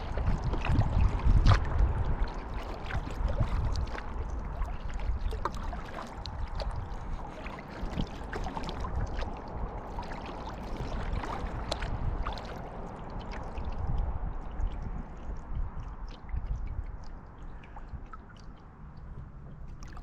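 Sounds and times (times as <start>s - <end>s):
small splashes and drips: 0.0s - 20.0s
water lapping and trickling: 0.0s - 20.0s.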